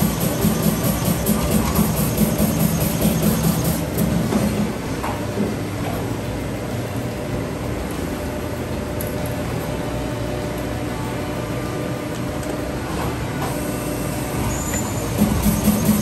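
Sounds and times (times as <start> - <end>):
factory machinery hum and rumble: 0.0 - 16.0.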